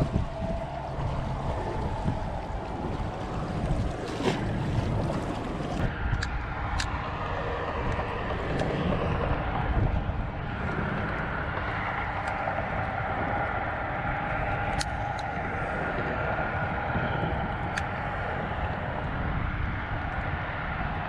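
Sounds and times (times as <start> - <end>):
faint engine drone: 0.0 - 21.0
wind rumble on microphone: 0.0 - 21.0.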